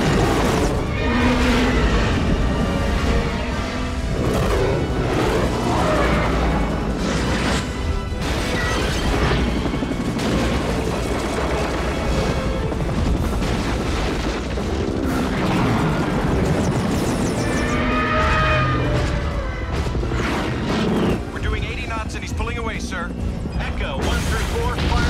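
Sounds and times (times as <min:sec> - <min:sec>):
dramatic film score: 0:00.0 - 0:25.0.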